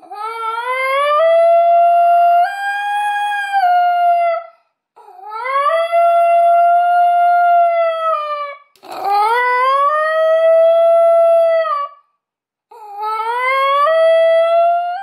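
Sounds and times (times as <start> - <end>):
dog yodel-like howling: 0.0 - 12.0, 12.7 - 15.0.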